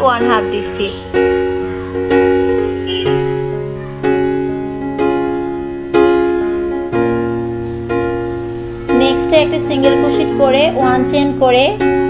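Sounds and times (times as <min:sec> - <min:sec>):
instrumental music chords: 0:00.0 - 0:12.0.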